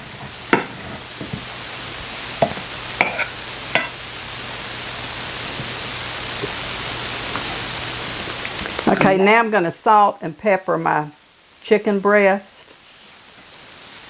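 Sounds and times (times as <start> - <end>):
saucepan hissing on stove: 0.0 - 14.0.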